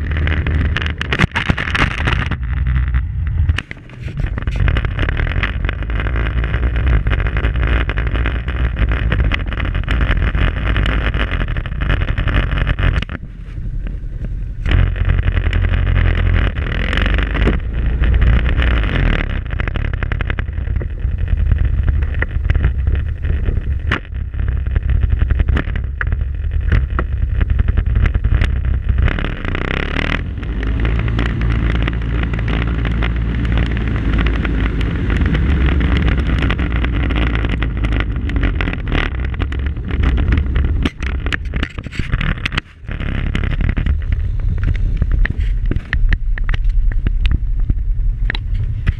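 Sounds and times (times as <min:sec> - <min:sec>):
off-road vehicle engine rumble: 0:00.0 - 0:48.9.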